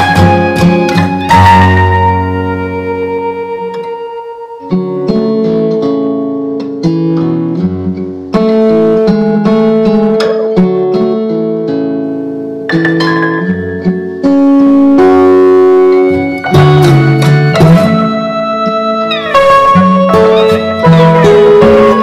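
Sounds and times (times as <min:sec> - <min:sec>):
instrumental music with plucked notes: 0:00.0 - 0:22.0.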